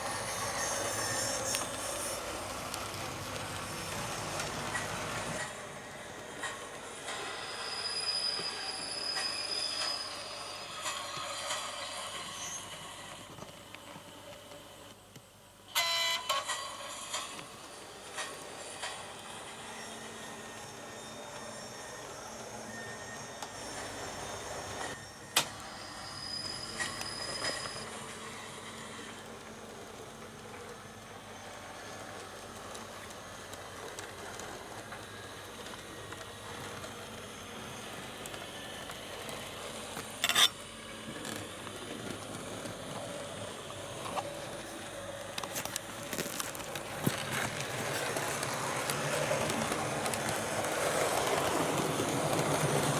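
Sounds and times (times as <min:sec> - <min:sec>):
model locomotive running sound: 0:00.0 - 0:52.9.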